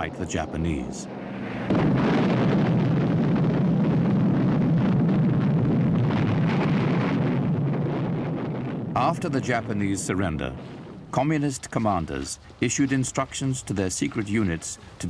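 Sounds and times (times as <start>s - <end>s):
aircraft engines rumbling: 0.0s - 6.7s, 8.7s - 15.0s.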